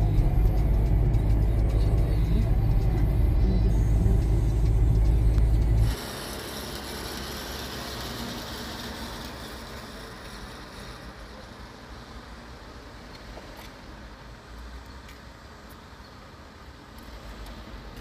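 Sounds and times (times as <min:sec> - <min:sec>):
cars and motorbikes driving past: 0:00.0 - 0:18.0.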